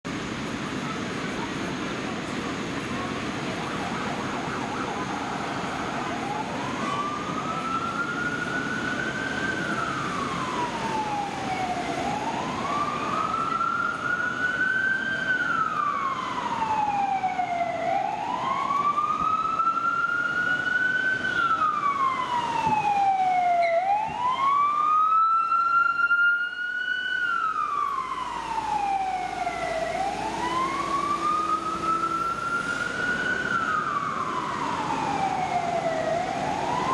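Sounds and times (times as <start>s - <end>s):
city traffic noise: 0.0s - 36.9s
police siren wailing: 2.9s - 36.9s.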